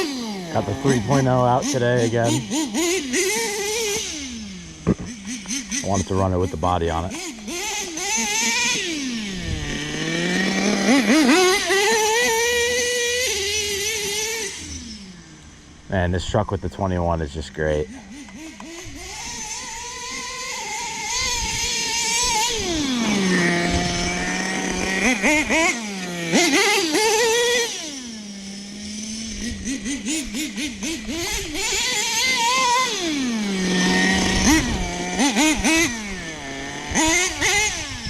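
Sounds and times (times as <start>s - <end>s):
small nitro engine revving: 0.0s - 16.3s, 16.9s - 38.0s.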